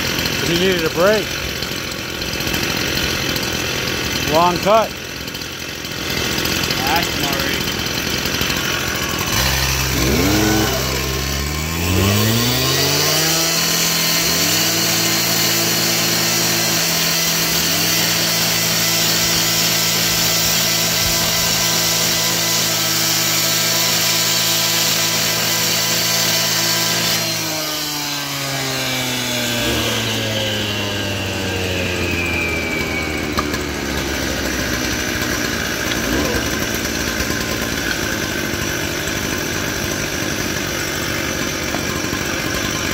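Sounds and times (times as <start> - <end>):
cut-off saw cutting pavers: 0.0 - 42.9.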